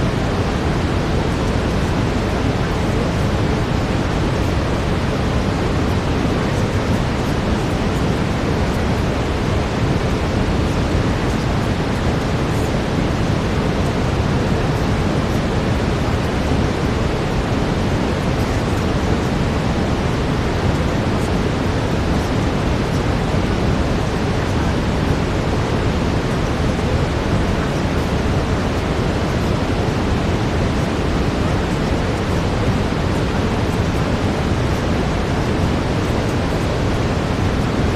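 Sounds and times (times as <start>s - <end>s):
brown noise: 0.0s - 37.9s.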